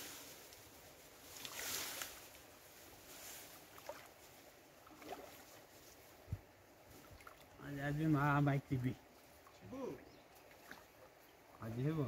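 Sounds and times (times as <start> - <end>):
river water sloshing: 0.0 - 8.0, 8.6 - 12.0.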